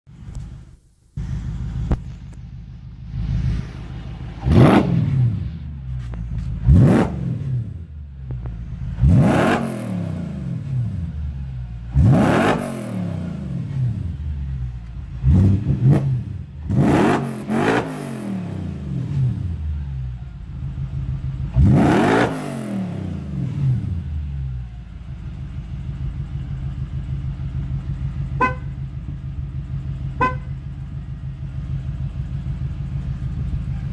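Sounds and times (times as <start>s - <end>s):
car engine revving and idling: 0.1s - 33.9s.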